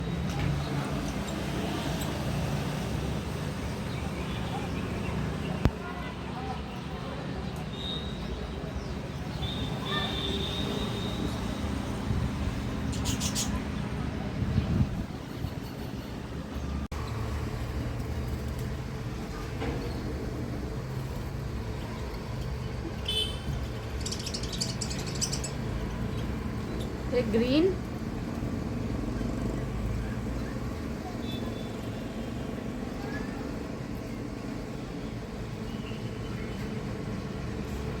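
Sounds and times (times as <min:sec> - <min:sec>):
traffic rumble: 0:00.0 - 0:38.0.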